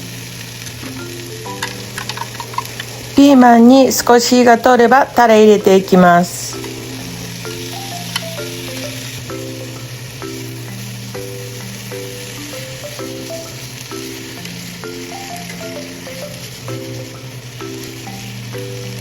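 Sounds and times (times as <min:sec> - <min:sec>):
food sizzling in a frying pan: 0:00.0 - 0:19.0
light background melody: 0:00.0 - 0:19.0.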